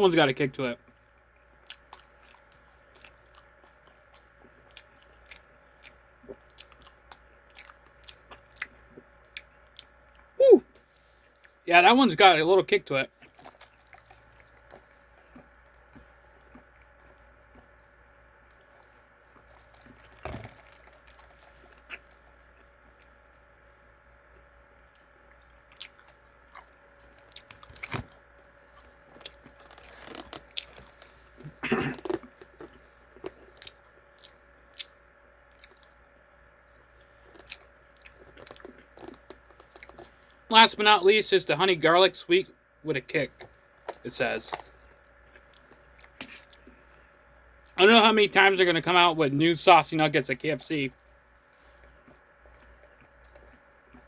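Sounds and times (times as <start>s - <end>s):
faint steady hum: 0.0s - 54.0s
person chewing crunchy food: 0.8s - 11.6s, 13.1s - 40.5s, 43.4s - 47.8s, 50.9s - 54.0s.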